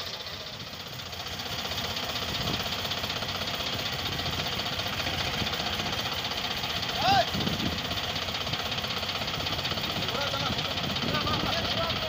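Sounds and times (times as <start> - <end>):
tractor diesel engine knocking: 0.0 - 12.0.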